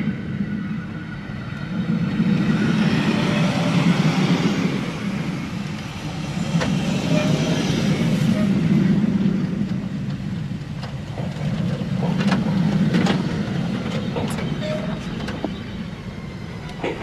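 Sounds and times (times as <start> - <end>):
train rolling on track: 0.0 - 17.0.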